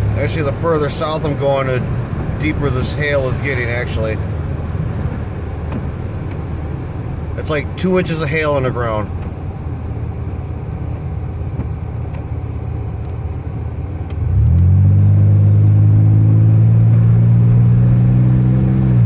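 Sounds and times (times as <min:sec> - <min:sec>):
car road noise: 0:00.0 - 0:19.0.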